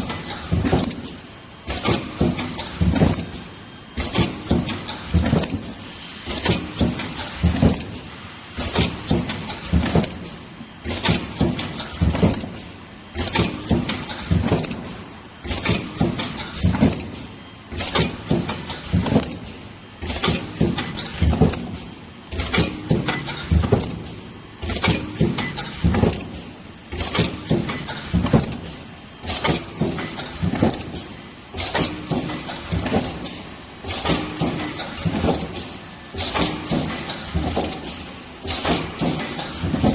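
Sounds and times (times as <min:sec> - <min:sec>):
welding machine metallic clanks: 0:00.0 - 0:39.9.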